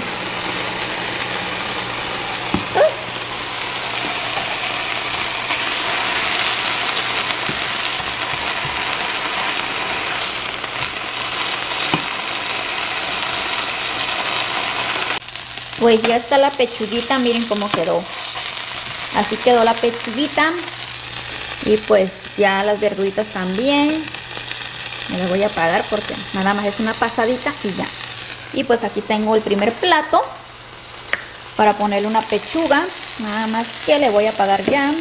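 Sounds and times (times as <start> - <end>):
food sizzling in frying pans: 0.0 - 35.0.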